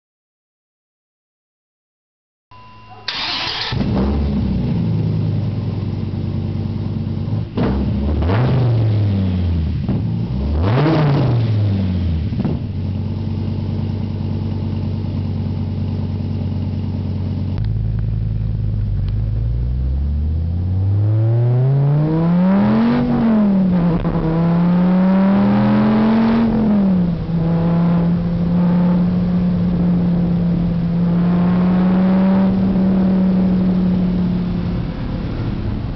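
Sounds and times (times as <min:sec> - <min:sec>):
car engine idling and revving: 0:02.9 - 0:35.9
car engine starting: 0:02.9 - 0:35.9
car engine accelerating: 0:03.1 - 0:35.9.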